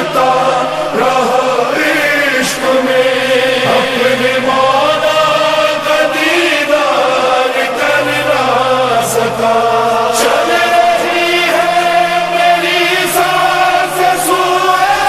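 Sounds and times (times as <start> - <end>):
voices chanting a lament: 0.0 - 15.0.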